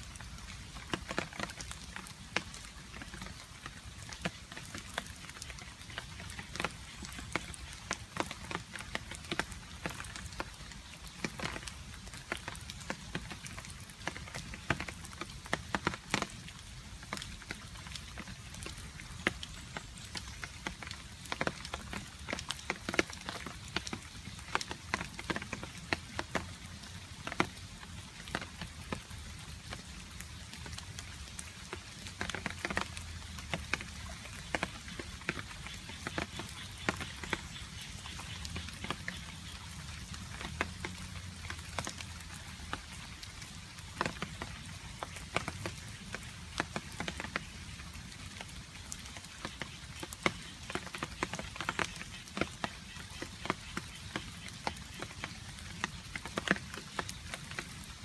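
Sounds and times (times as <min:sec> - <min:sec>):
rain patter: 0:00.0 - 0:58.0.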